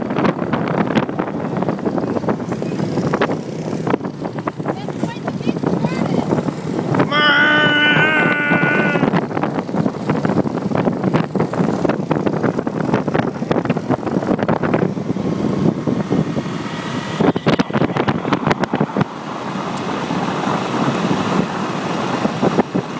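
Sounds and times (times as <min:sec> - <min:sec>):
wind buffeting microphone: 0:00.0 - 0:22.9
motorbike engine running: 0:00.4 - 0:19.2.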